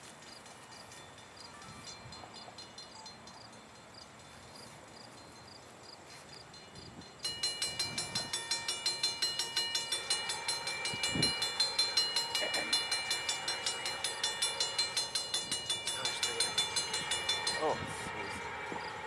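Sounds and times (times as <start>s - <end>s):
railroad crossing bell ringing: 0.4s - 19.0s.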